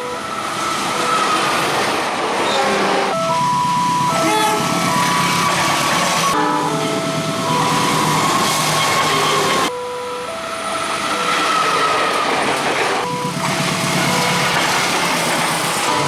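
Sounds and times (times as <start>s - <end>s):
crossing warning alarm tones: 0.0s - 16.0s
train wheels rumbling and clacking: 0.0s - 16.0s.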